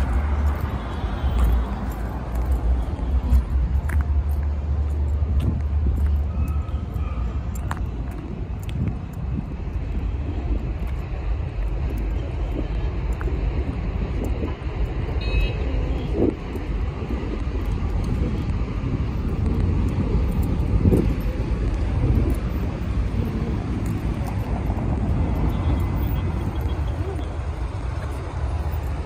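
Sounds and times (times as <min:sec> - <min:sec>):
rumble of cars idling and passing: 0:00.0 - 0:29.0.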